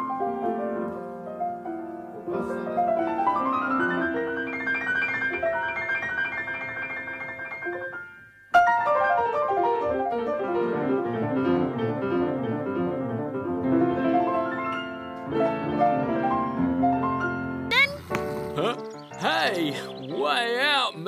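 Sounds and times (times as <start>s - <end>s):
grand piano classical piece: 0.0s - 21.0s.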